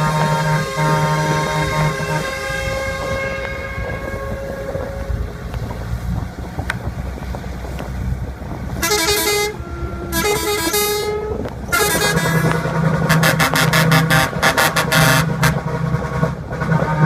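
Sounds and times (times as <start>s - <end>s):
vehicle horn blasts: 0.0s - 5.8s, 8.7s - 17.0s
low engine rumble: 0.0s - 17.0s.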